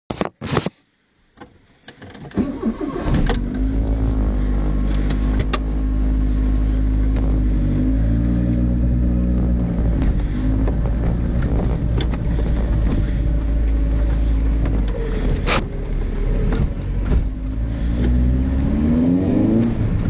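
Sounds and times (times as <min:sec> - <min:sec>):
car engine starting and idling: 0:02.0 - 0:20.0.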